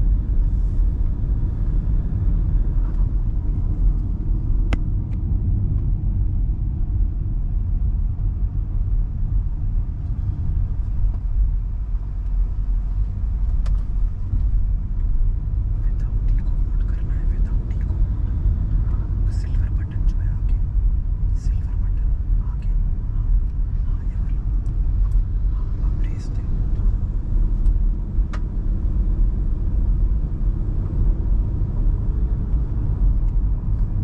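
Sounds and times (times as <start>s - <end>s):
car driving road rumble: 0.0s - 34.0s.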